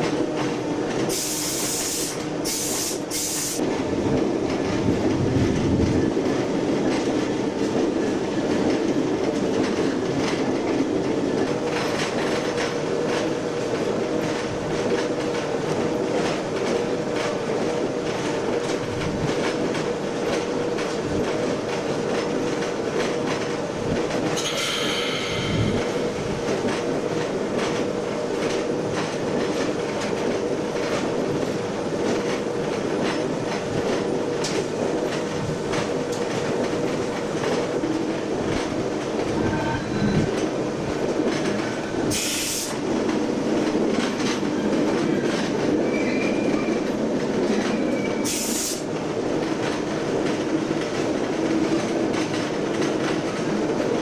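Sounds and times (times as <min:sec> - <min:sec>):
train running drone: 0:00.0 - 0:54.0.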